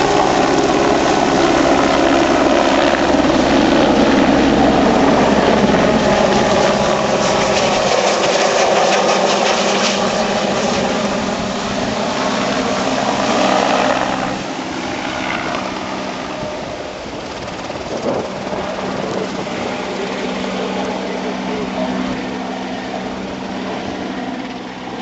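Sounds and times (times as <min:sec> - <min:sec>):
helicopter rotor and engine roaring: 0:00.0 - 0:25.0.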